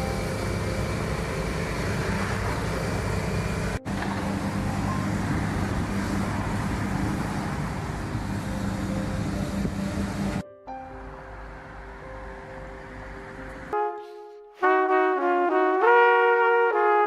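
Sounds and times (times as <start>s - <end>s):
vehicle road noise rumble: 0.0s - 13.8s.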